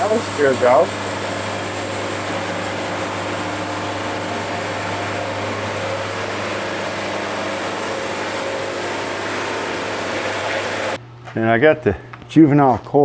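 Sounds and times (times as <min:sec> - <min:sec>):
band sawmill sawing log: 0:00.0 - 0:11.0.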